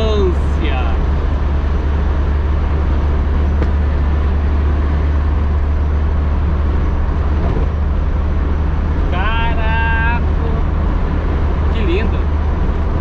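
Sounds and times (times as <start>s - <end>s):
heavy low rumble: 0.0s - 13.0s
road and wind noise: 0.0s - 13.0s.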